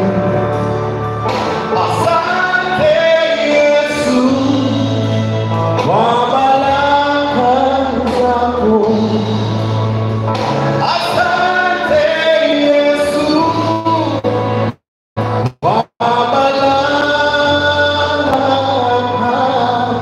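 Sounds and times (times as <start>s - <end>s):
man singing into a microphone: 0.0s - 14.8s, 15.6s - 20.0s
instrumental backing with bass: 0.0s - 20.0s.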